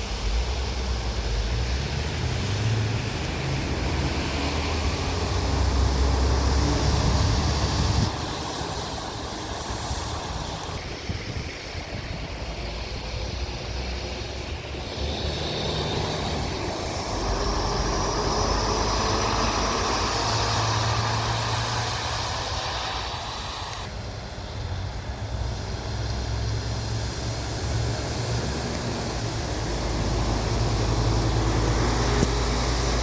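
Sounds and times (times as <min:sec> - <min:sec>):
heavy truck running: 0:00.0 - 0:33.0.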